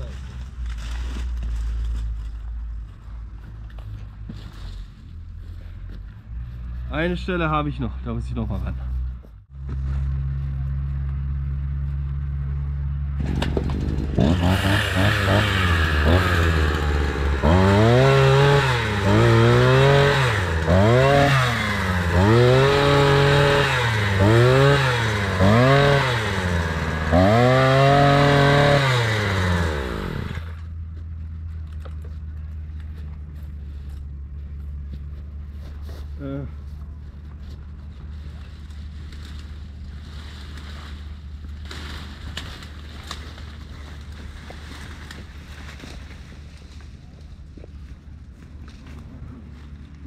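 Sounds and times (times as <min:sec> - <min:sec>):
small engine idling and revving: 0:08.6 - 0:50.0.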